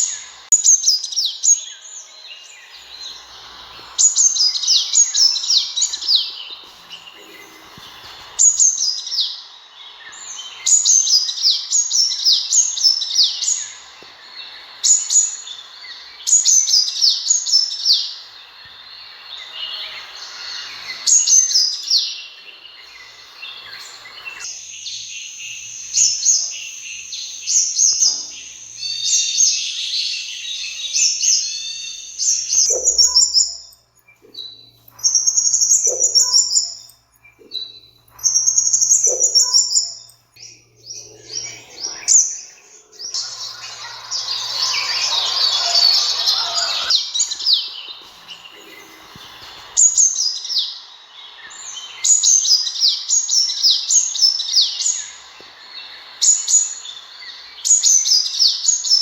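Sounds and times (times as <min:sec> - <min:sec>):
bird rapid high chirping: 0:00.0 - 0:13.9, 0:14.5 - 0:59.0.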